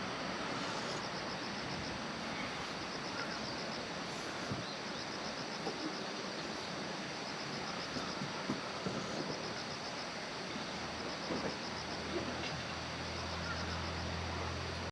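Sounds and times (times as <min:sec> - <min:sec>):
insects chirping: 0:00.0 - 0:14.9
steady hiss: 0:00.0 - 0:14.9.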